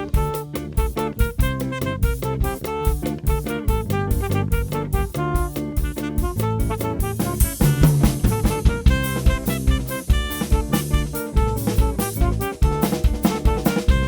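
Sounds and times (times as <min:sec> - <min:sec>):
drum kit beat: 0:00.0 - 0:14.0
instrumental band playing: 0:00.0 - 0:14.0.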